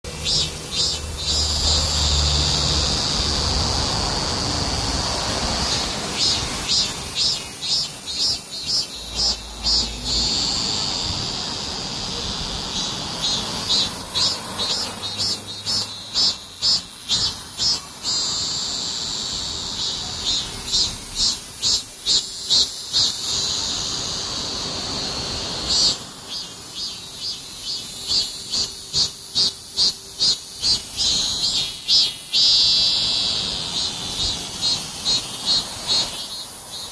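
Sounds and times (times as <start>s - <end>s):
cicadas buzzing drone: 0.0s - 36.9s
cicadas pulsing: 0.0s - 36.9s.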